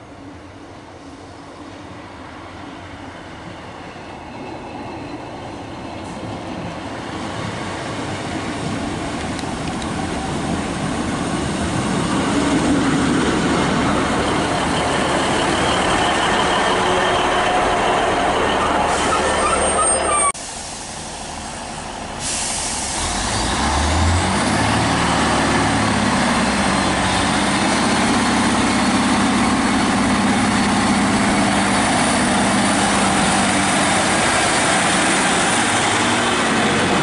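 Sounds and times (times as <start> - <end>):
diesel train rumble: 0.0 - 37.0.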